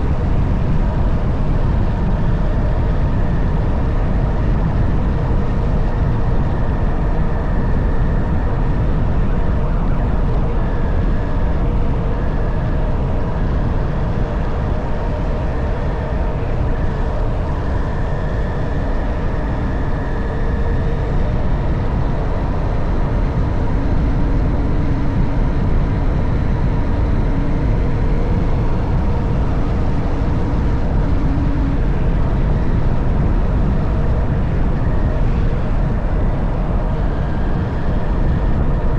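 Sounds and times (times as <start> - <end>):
wind rush on microphone: 0.0 - 38.9.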